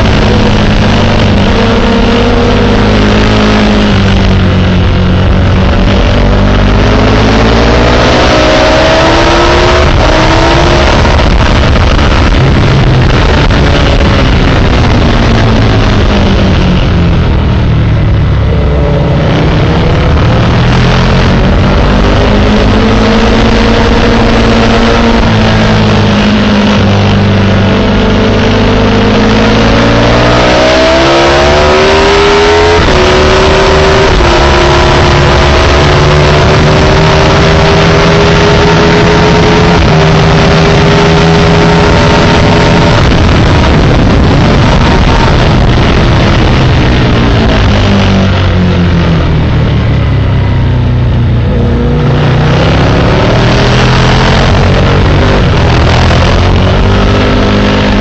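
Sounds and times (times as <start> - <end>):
motorcycle engine revving: 0.0 - 58.0
wind noise: 0.0 - 58.0.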